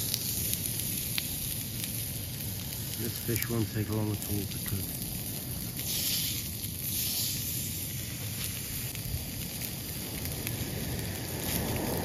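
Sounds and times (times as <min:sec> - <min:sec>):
fish fillets sizzling on grill pan: 0:00.0 - 0:12.0.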